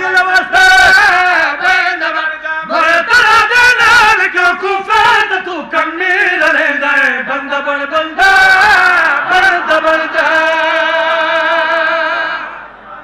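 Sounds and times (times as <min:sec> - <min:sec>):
man chanting: 0:00.0 - 0:12.6.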